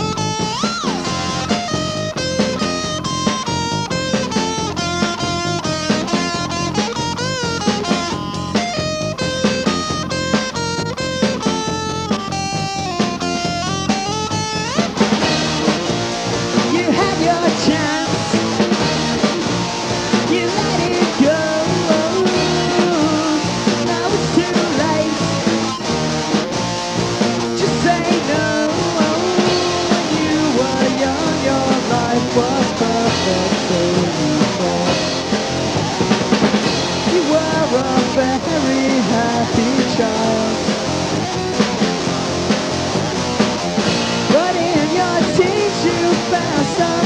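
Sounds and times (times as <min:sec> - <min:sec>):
fuzz-pop rock band: 0:00.0 - 0:47.0.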